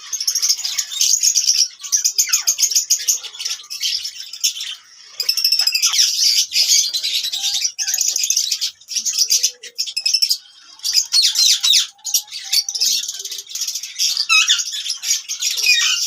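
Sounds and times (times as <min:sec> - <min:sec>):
lovebirds chirping: 0:00.0 - 0:16.0.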